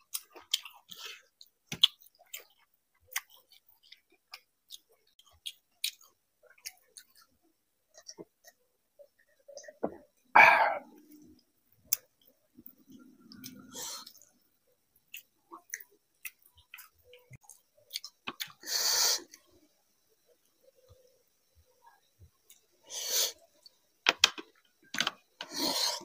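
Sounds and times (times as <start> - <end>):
man chewing food: 0.0 - 23.9.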